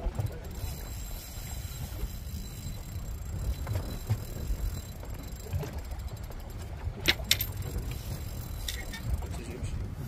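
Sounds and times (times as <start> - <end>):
fishing reel ticking: 0.1 - 10.0.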